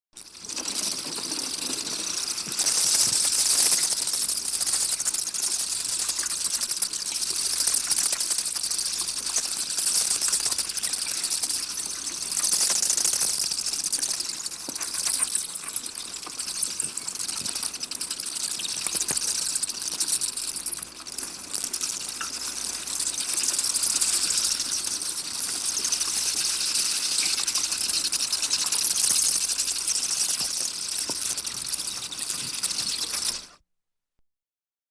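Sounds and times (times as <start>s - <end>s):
bats chittering and squeaking: 0.2s - 33.6s.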